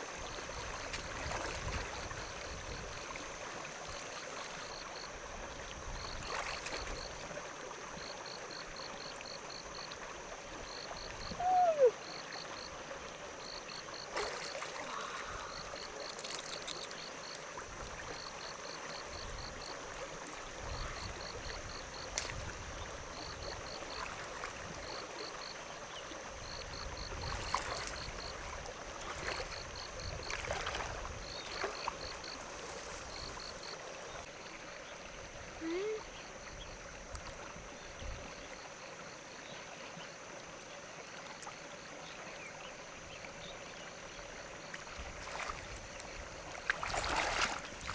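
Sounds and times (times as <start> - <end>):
insects or frogs chirping: 0.0 - 47.9
water trickling and sloshing: 0.0 - 47.9.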